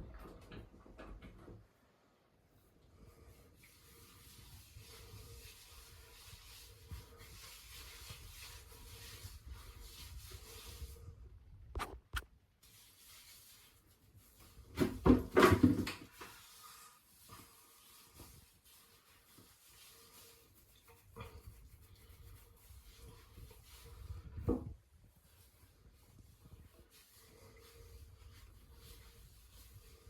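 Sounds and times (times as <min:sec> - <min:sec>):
faint steady hiss: 0:00.1 - 0:30.0.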